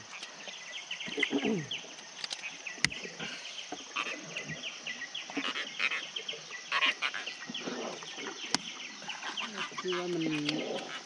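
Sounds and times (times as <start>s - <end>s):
high insect drone: 0.0s - 11.0s
insects and birds chirping: 0.0s - 11.0s.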